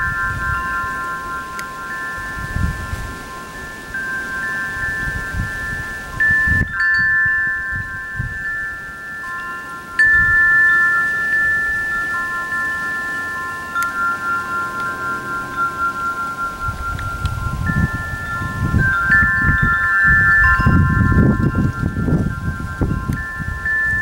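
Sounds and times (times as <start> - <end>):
tubular wind chime ringing: 0.0 - 24.0.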